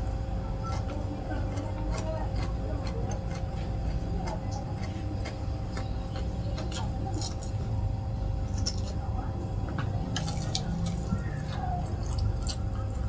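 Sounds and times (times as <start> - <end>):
chewing crunchy food: 0.0 - 13.0
steady low hum: 0.0 - 13.0.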